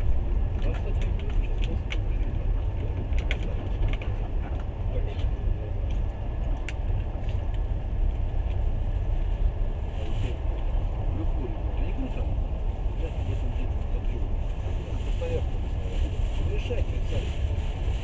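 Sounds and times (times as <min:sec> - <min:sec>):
train carriage rumbling: 0:00.0 - 0:18.0.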